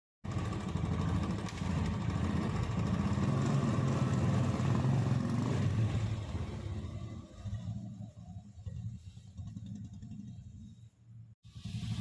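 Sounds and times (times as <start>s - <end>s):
motorcycle engine rumbling: 0.2s - 12.0s.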